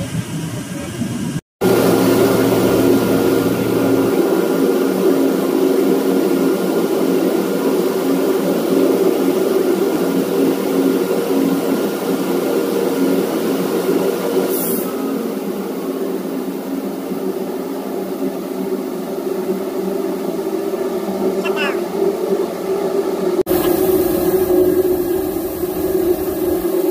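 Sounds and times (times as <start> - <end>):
machinery drone: 0.1 - 22.1, 22.8 - 26.9.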